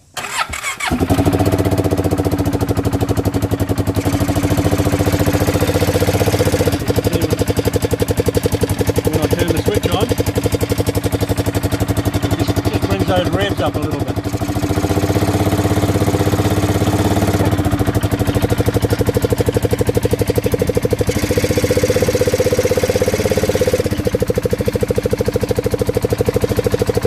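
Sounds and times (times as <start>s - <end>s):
utility vehicle engine idling: 0.2s - 27.0s.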